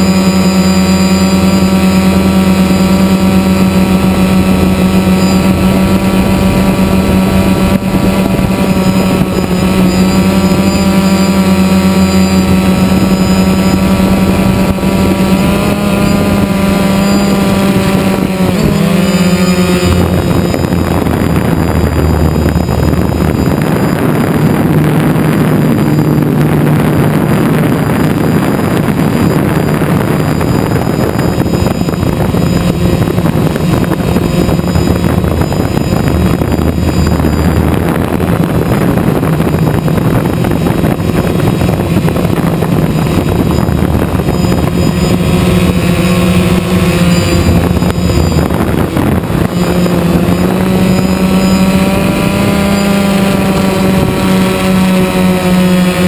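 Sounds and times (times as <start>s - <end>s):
drone propellers humming: 0.0s - 56.0s.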